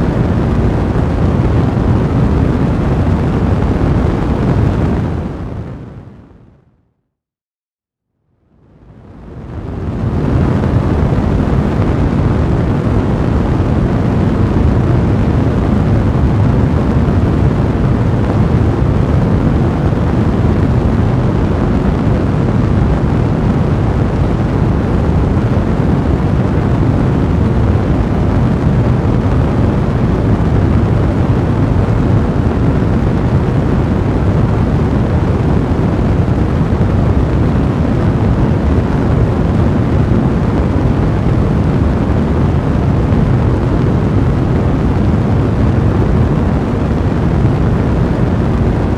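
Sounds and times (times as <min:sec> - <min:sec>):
fire crackling and rumbling: 0:00.0 - 0:06.6, 0:08.4 - 0:48.9.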